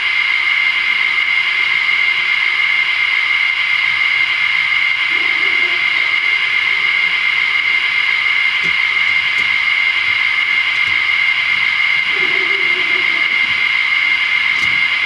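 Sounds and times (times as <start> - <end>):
high whine: 0.0 - 15.0.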